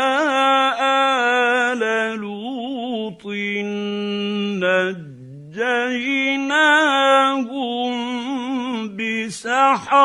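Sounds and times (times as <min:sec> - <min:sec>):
man reciting in chant: 0:00.0 - 0:10.0.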